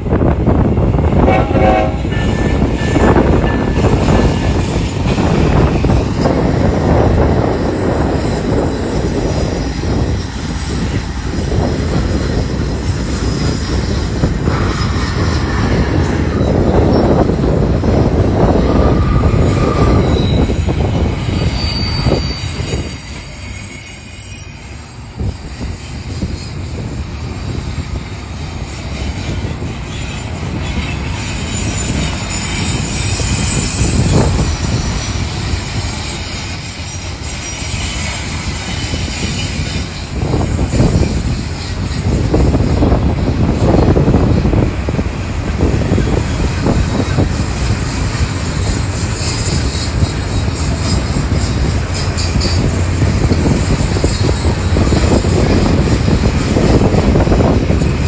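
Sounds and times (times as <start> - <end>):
freight train rumble and clatter: 0.0 - 58.0
high-pitched wheel squeal: 1.3 - 44.6, 45.6 - 58.0.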